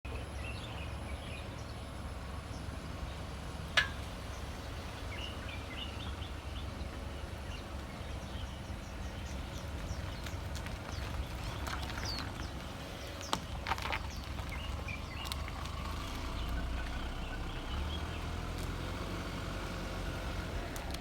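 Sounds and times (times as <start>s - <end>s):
birds chirping: 0.1s - 21.0s.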